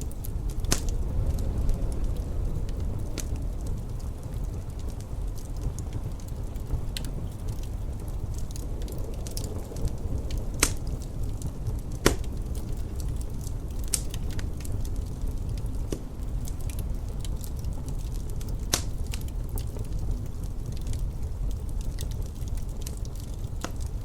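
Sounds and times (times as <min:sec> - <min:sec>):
low rumble of wind: 0:00.0 - 0:24.0
wood fire crackling: 0:00.0 - 0:24.0.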